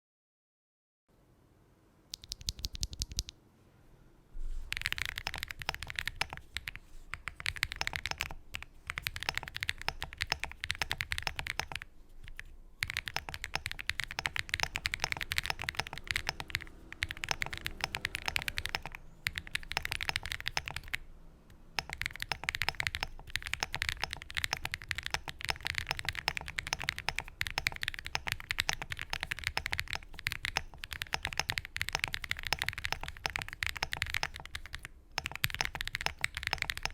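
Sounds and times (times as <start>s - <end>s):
mechanical keyboard typing: 2.1s - 3.3s, 4.7s - 21.0s, 21.8s - 36.9s.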